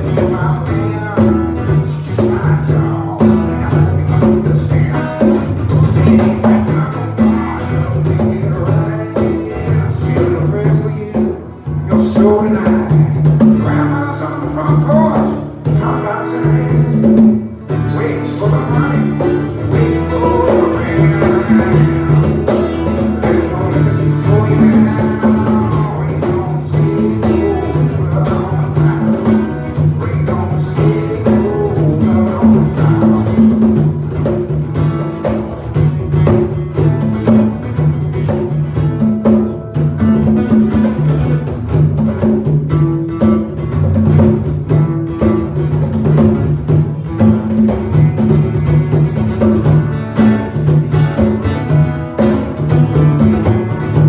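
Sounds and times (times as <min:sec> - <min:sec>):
acoustic guitars strumming: 0:00.0 - 0:54.0
congas played by hand: 0:00.0 - 0:54.0.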